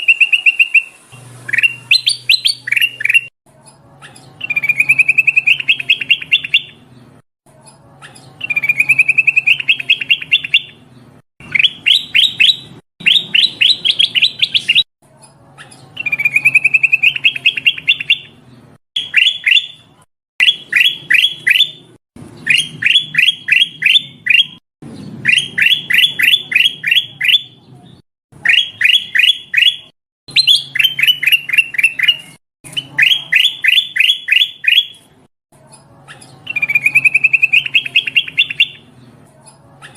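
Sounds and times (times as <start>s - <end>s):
bulbul chirping calls: 0.0s - 3.3s, 4.1s - 6.9s, 8.1s - 14.9s, 15.6s - 18.4s, 19.0s - 27.7s, 28.4s - 35.1s, 36.1s - 39.0s.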